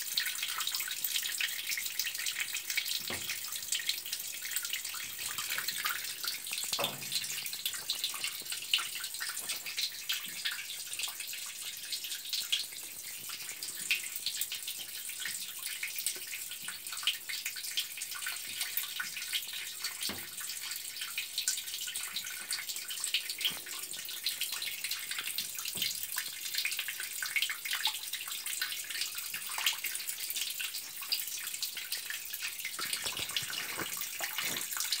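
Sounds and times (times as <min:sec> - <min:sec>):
water hissing from leaking pipe: 0:00.0 - 0:35.0.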